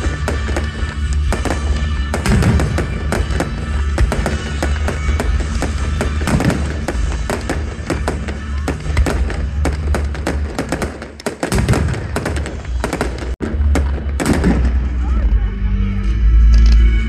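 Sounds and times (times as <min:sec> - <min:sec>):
fireworks crackling and banging: 0:00.0 - 0:15.2.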